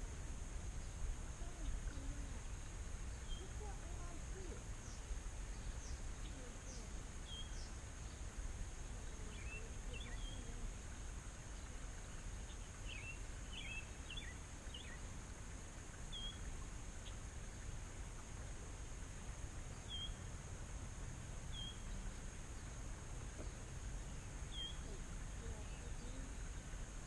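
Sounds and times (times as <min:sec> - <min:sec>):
small birds chirping: 0:00.7 - 0:20.3, 0:21.2 - 0:27.0.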